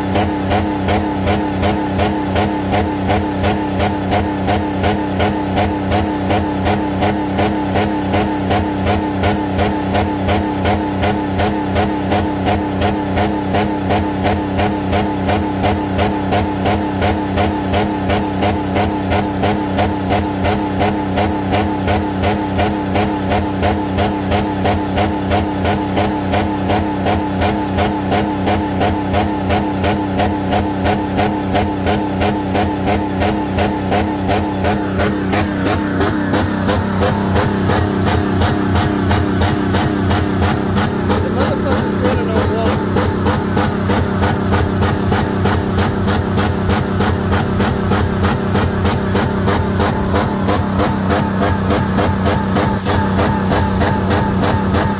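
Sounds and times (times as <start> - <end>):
car engine running with rhythmic pulse: 0.0 - 54.9.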